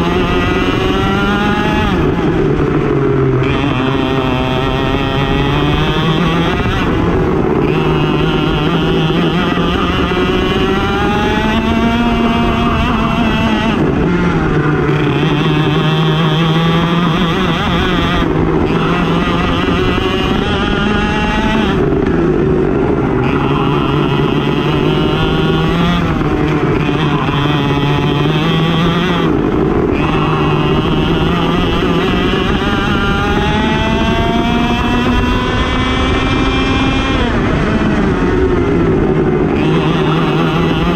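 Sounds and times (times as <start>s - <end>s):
racing kart engine revving: 0.0s - 40.9s.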